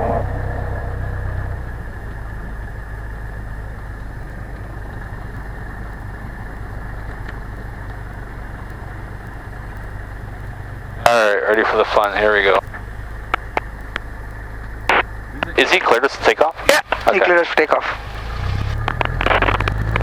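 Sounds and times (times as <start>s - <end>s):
airplane piston engine humming: 0.0s - 20.0s.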